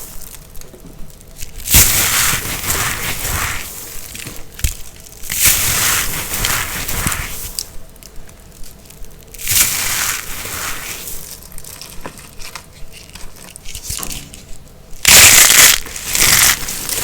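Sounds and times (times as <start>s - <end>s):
dry soap crunching: 0.0s - 17.0s.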